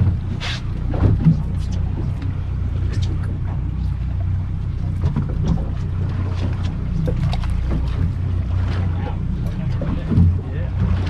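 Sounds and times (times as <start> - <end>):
boat engine humming: 0.0 - 11.0
water noise: 0.0 - 11.0
wind: 0.0 - 11.0.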